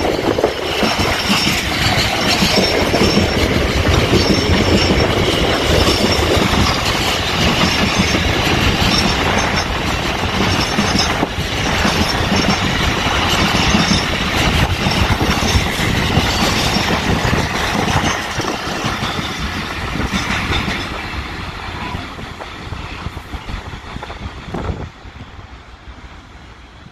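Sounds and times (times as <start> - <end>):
freight train wheels on track: 0.0 - 26.9.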